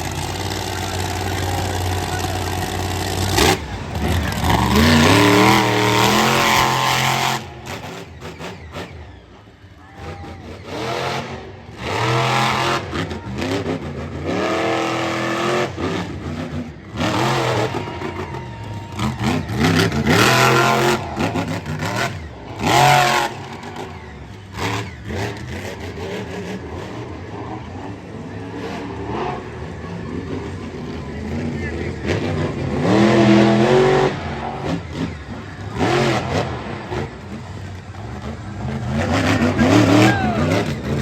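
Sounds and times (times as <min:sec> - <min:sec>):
monster truck engine revving: 0:00.0 - 0:41.0.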